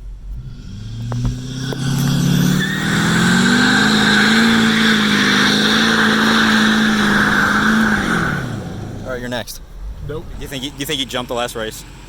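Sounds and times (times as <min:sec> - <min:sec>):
truck engine revving: 0:00.0 - 0:12.0
tires spinning hiss: 0:00.1 - 0:12.0.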